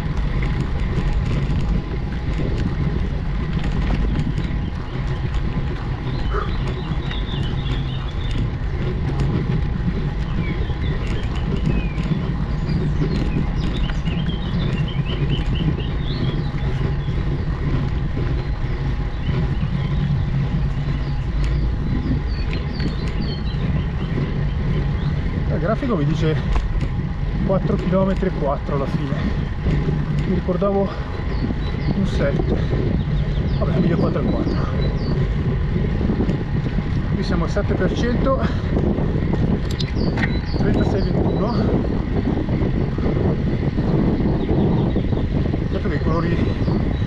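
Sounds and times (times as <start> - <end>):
birds chirping: 0.0 - 47.0
low rumble of vehicle travel: 0.0 - 47.0.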